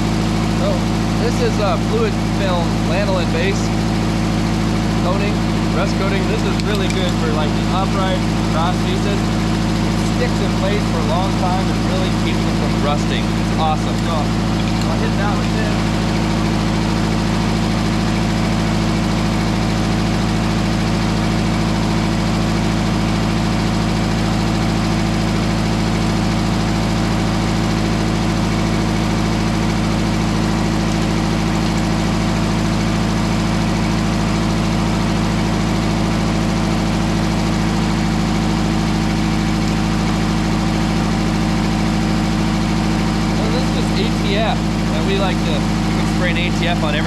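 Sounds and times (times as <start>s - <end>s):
sawmill engine idling: 0.0s - 47.0s.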